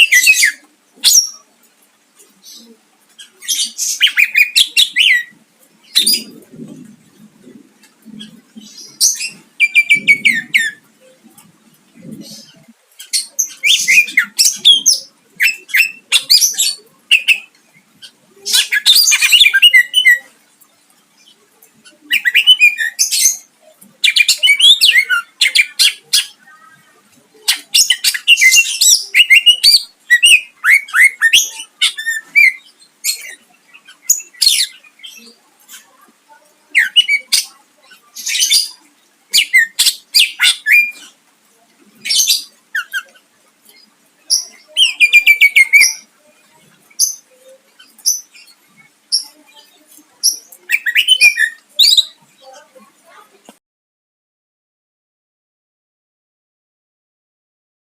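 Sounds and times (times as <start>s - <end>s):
bird singing varied song: 0.0s - 53.2s.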